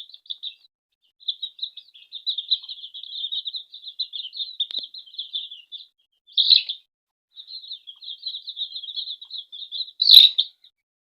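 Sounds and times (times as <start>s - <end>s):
baby chicks peeping: 0.0s - 10.8s.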